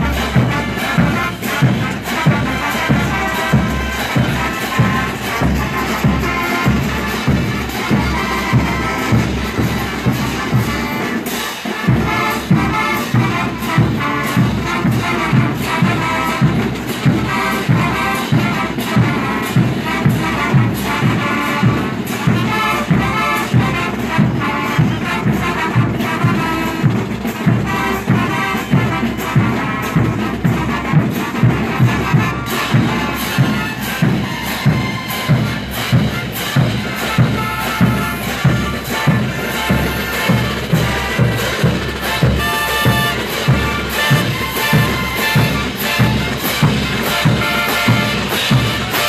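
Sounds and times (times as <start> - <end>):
brass band playing: 0.0 - 49.0.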